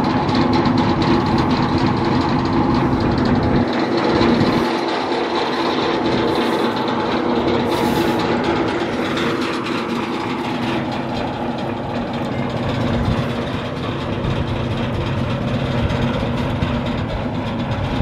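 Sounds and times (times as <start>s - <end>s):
gas engine running steadily: 0.0s - 18.0s.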